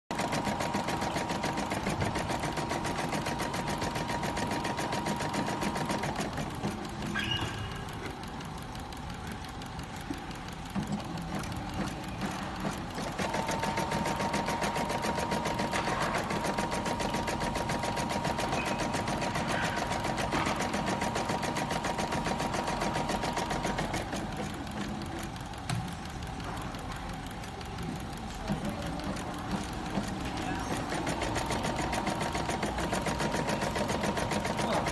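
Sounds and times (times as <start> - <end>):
sewing machine whine: 0.1 - 25.5, 27.1 - 34.9
sewing machine stitching: 0.1 - 34.9
sharp clicks: 0.2 - 34.9.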